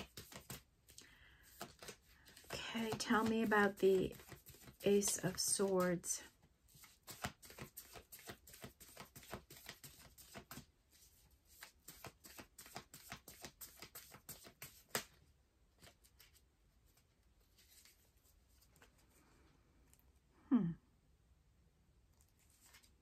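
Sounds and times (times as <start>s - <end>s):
cards being shuffled: 0.0s - 19.1s, 22.2s - 23.0s.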